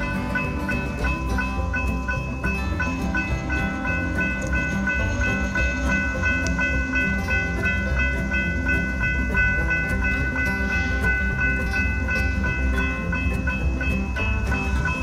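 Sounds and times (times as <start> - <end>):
diesel locomotive rumble: 0.0 - 15.0
high bell-like ringing: 0.0 - 15.0.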